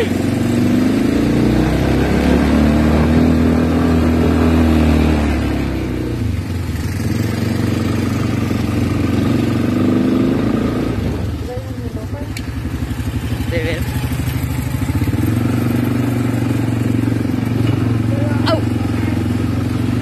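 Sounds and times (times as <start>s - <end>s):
quad bike engines running: 0.0s - 20.0s.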